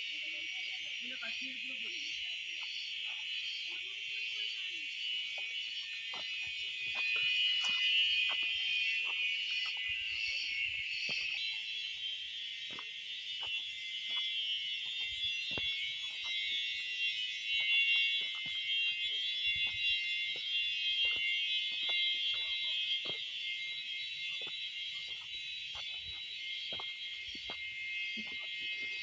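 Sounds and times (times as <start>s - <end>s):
cicadas shrill chorus: 0.0s - 29.0s.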